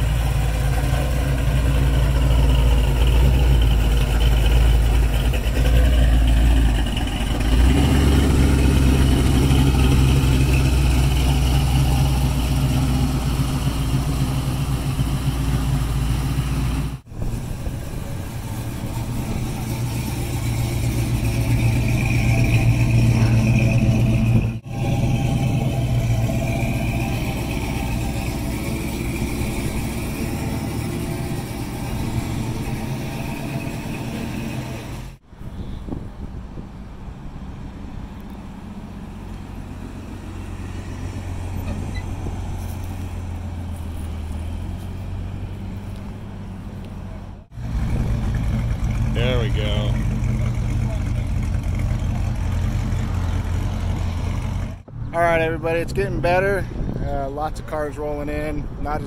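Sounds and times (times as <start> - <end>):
car engines rolling past: 0.0 - 59.0.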